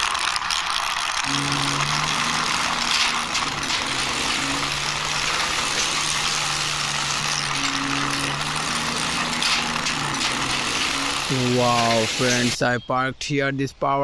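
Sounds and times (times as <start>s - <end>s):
toy wheels rolling on hard floor: 0.0s - 12.6s.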